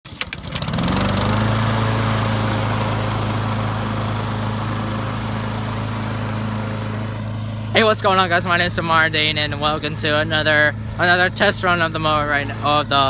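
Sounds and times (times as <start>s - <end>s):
lawnmower engine running: 0.1s - 13.0s.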